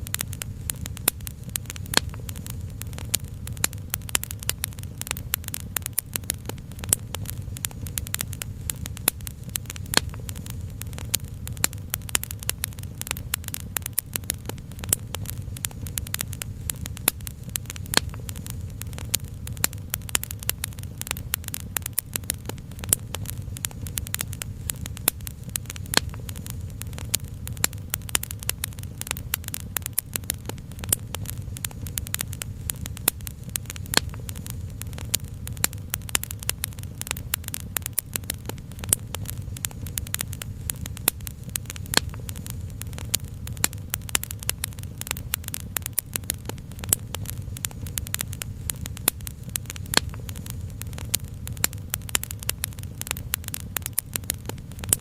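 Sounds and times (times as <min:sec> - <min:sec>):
steady low rumble: 0:00.0 - 0:55.0
wood fire crackling and popping: 0:00.0 - 0:55.0.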